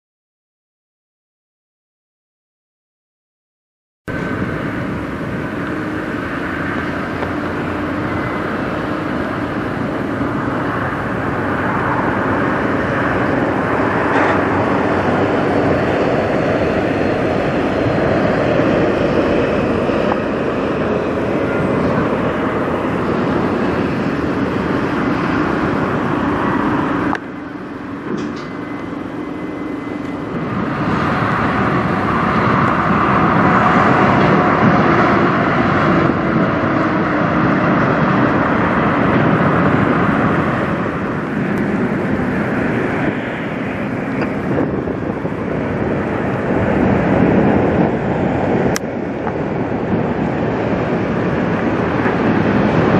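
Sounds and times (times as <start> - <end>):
trucks driving past: 4.1 - 52.9.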